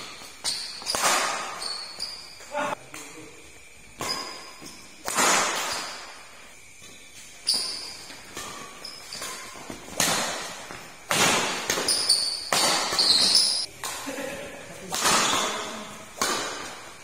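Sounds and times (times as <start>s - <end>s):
rackets hitting shuttlecock: 0.0s - 3.2s, 3.8s - 17.0s.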